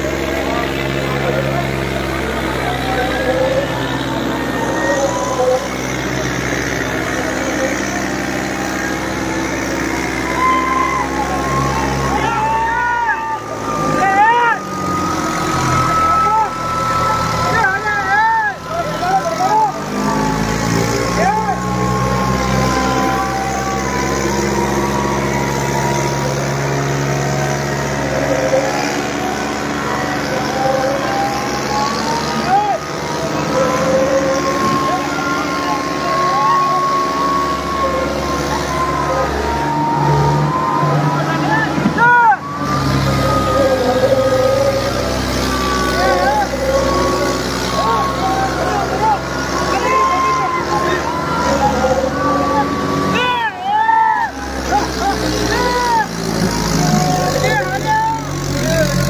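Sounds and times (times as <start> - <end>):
crowd shouts: 0.0 - 59.0
tractor diesel engine running: 0.0 - 59.0.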